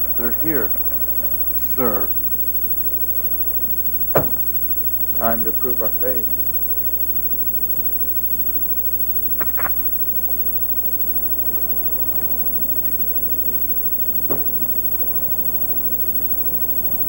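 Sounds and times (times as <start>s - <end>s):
tape hiss and low hum: 0.0s - 17.0s.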